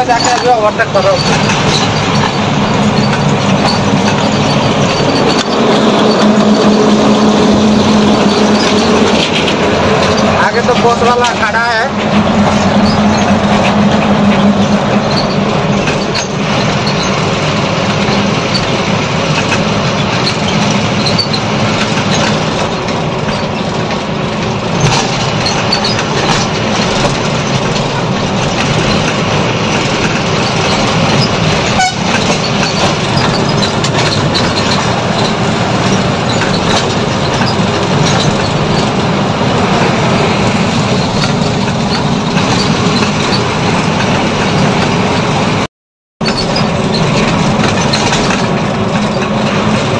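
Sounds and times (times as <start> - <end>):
constant rattle: 0.0 - 49.9
road noise: 0.0 - 49.9
truck engine drone: 0.0 - 49.9.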